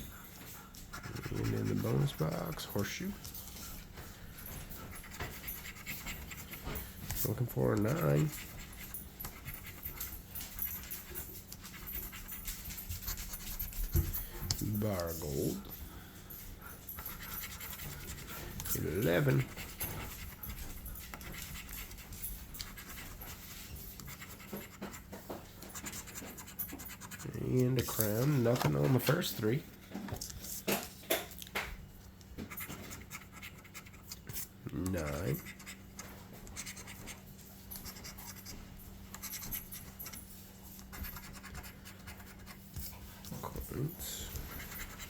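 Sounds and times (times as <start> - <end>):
scratching lottery tickets: 0.0 - 15.8, 16.8 - 31.1, 32.0 - 45.0
faint low hum: 0.0 - 45.0.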